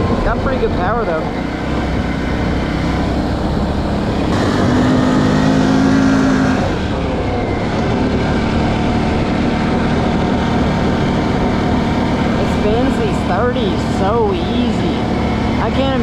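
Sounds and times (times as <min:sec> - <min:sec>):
atv engine under throttle: 0:00.0 - 0:16.0.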